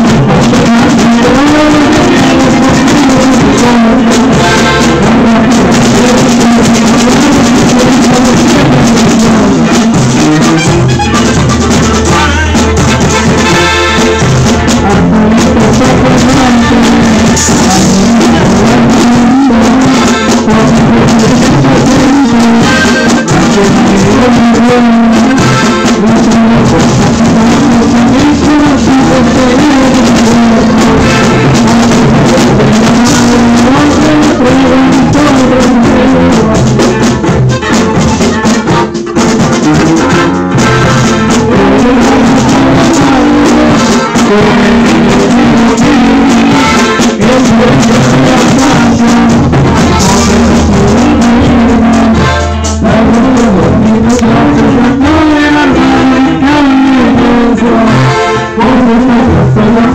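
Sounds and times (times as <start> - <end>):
button accordion: 0.0 - 59.9
live band music: 0.0 - 59.9
person singing into microphone: 0.0 - 59.9.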